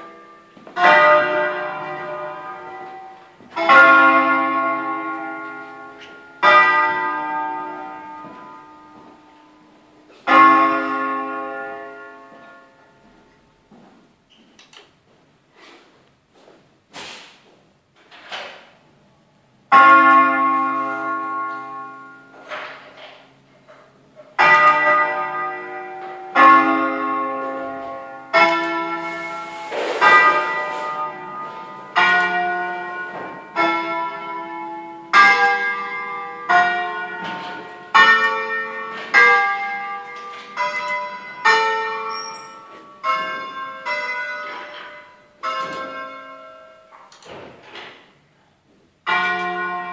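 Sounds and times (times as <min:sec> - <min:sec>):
church bell strokes: 0:00.0 - 0:13.2, 0:19.7 - 0:23.2, 0:23.9 - 0:47.0, 0:49.0 - 0:49.9.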